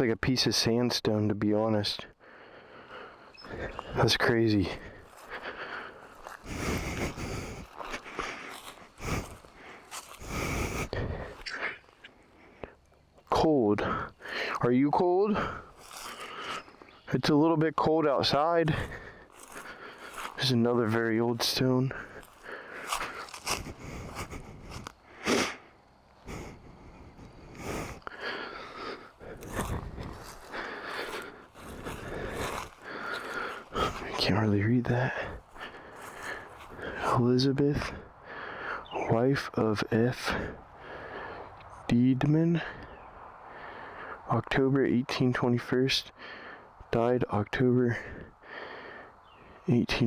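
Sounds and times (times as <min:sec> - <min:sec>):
heavy breathing: 0:02.1 - 0:17.1, 0:18.1 - 0:41.9, 0:42.6 - 0:44.3, 0:46.1 - 0:46.8, 0:47.9 - 0:49.6.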